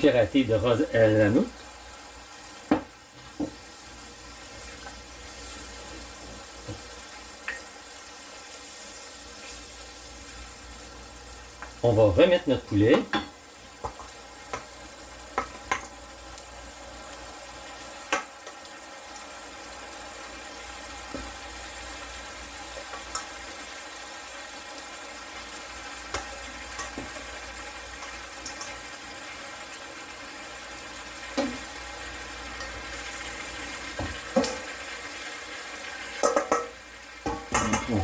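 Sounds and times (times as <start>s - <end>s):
sauce sizzling in a pot: 0.0s - 38.0s.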